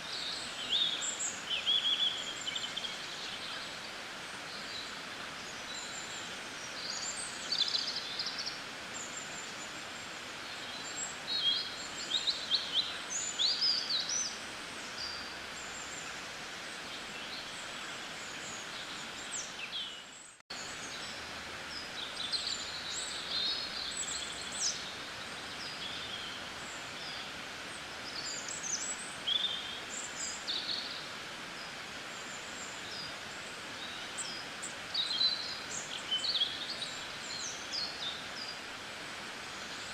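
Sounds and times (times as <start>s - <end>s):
small birds chirping and trilling: 0.0s - 39.9s
steady outdoor hiss: 0.0s - 39.9s.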